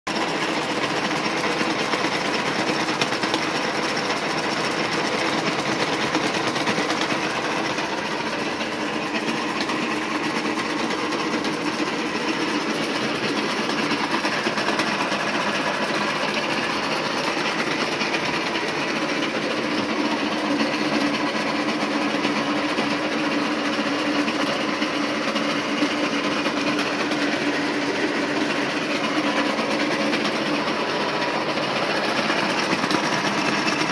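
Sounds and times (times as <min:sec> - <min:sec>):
milling machine running: 0:00.1 - 0:33.9.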